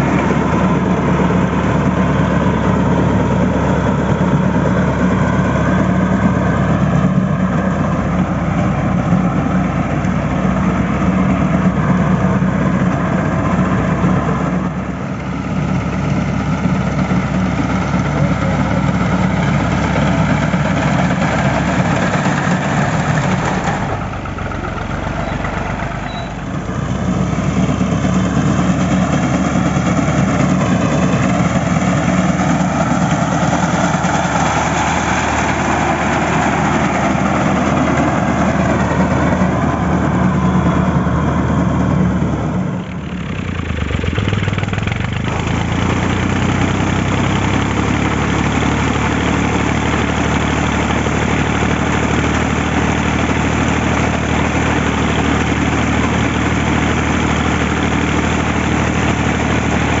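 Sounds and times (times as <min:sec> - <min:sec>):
tractor diesel engine under load: 0:00.0 - 1:00.0.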